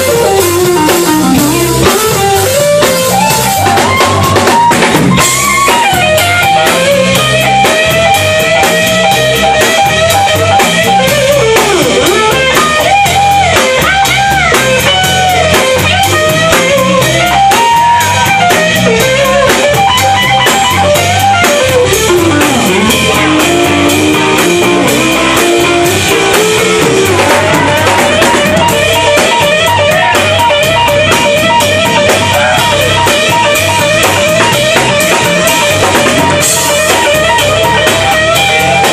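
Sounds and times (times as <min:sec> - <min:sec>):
drum kit: 0:00.0 - 0:38.9
electric guitar lead with bent notes: 0:00.0 - 0:38.9.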